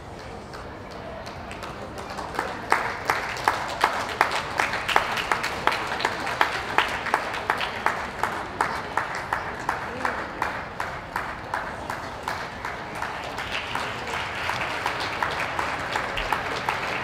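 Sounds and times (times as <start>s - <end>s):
crowd clapping in unison: 0.1s - 17.0s
general applause: 0.2s - 17.0s.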